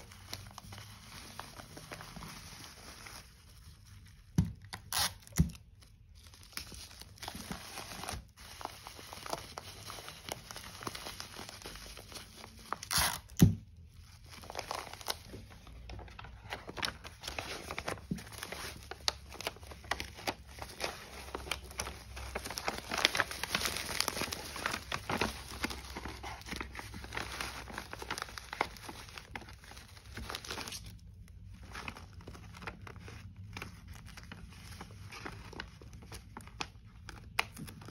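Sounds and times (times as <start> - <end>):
bubble wrap and paper crinkling: 0.0 - 37.9.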